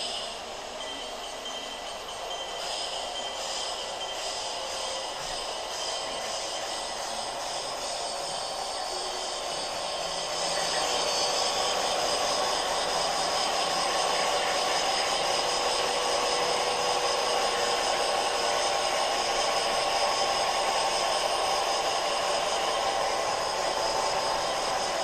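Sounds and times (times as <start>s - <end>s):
model steam train running: 0.0s - 25.0s.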